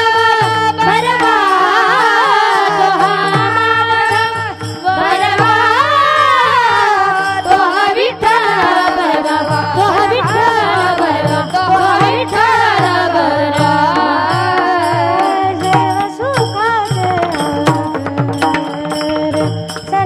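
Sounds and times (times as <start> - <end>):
woman singing devotional song: 0.0 - 20.0.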